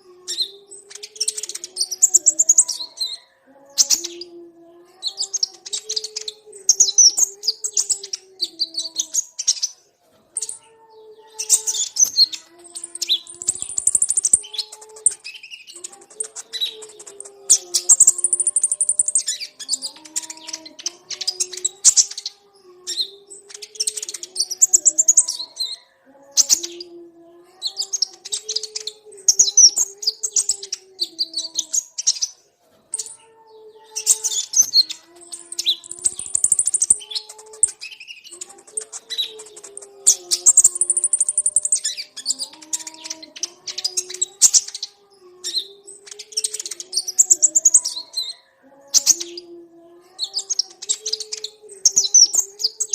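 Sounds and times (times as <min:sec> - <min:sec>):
birds chirping and trilling: 0:00.0 - 0:52.9.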